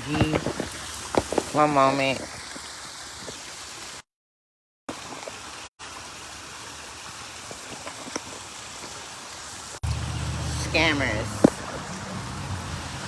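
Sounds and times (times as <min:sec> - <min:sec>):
stream of flowing water: 0:00.0 - 0:04.1, 0:04.9 - 0:13.0.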